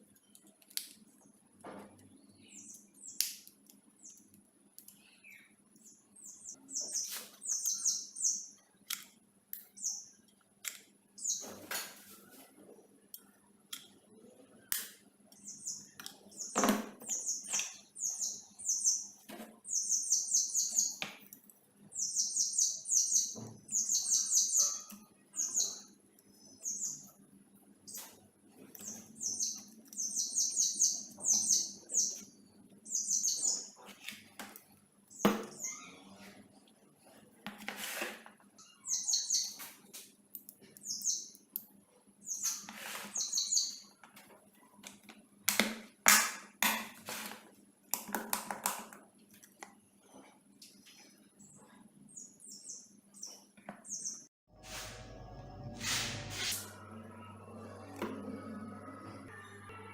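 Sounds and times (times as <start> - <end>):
small birds chirping: 0.0 - 37.1, 38.5 - 44.8, 50.6 - 55.2.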